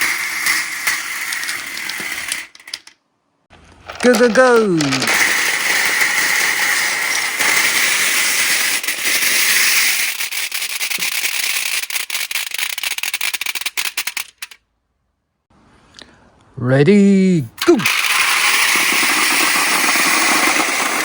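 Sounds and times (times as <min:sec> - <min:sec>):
marbles rolling and clattering: 0:00.0 - 0:02.9, 0:03.7 - 0:14.6, 0:17.7 - 0:21.0.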